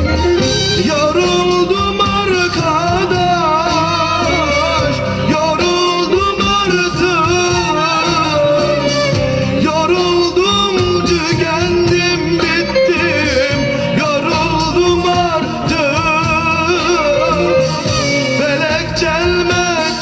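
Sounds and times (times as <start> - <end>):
amplified backing music: 0.0 - 20.0
man singing into a microphone: 0.1 - 20.0.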